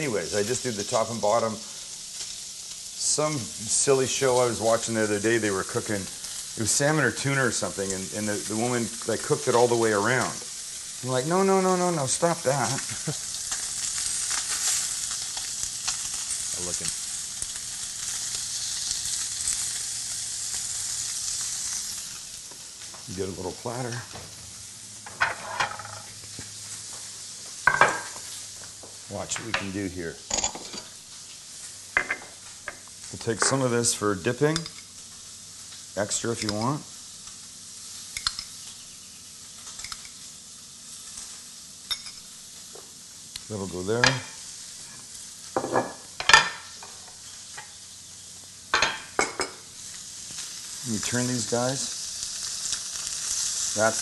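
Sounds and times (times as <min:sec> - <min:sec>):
fish sizzling on grill pan: 0:00.0 - 0:54.0.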